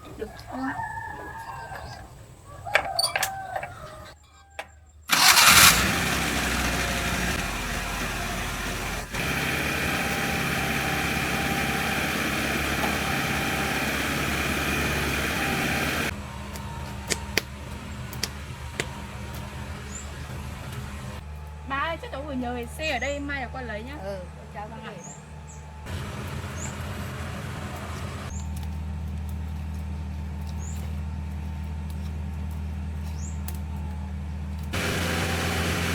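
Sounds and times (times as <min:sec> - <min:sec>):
truck engine starting and running: 0:05.1 - 0:35.9.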